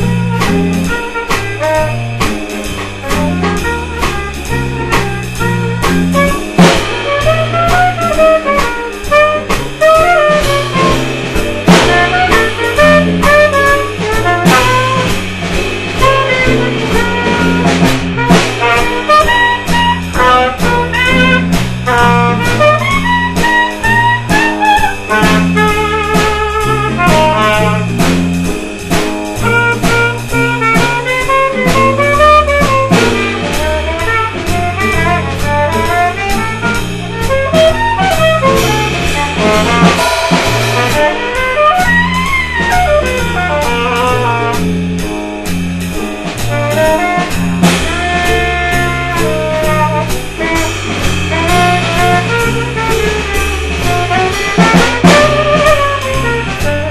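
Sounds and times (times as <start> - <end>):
bass line: 0.0 - 56.9
drum kit with cymbals: 0.0 - 56.9
wind instrument melody: 0.0 - 56.9.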